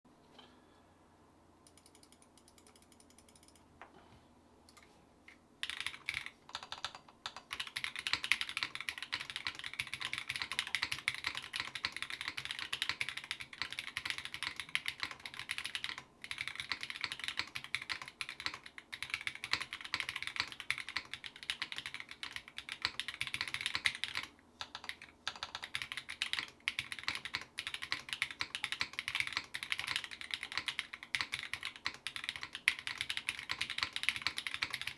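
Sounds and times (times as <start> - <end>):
mechanical keyboard typing: 1.7 - 3.6, 5.6 - 34.9.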